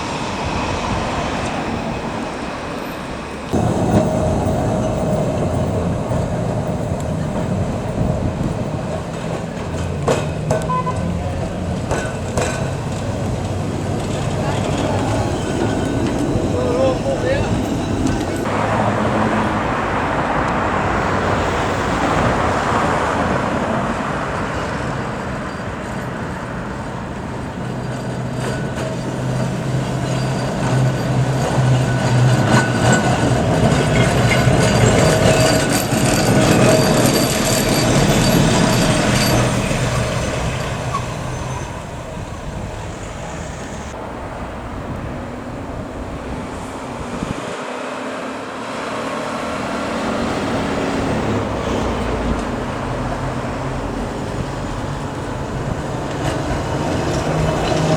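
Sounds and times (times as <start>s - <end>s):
electric tram running on rails: 0.0s - 57.9s.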